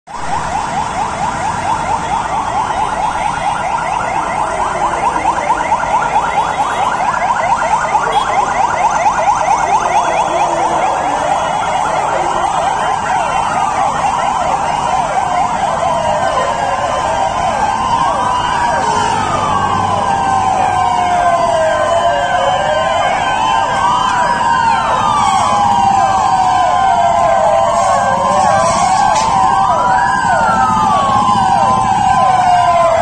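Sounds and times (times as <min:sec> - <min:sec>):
fire engine sirens yelping: 0:00.1 - 0:33.0.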